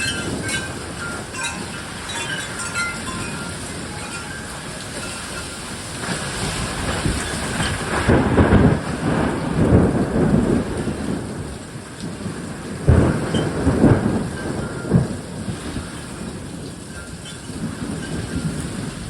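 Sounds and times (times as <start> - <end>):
heavy rain: 0.0 - 19.0
thunder rumbling: 0.0 - 19.0.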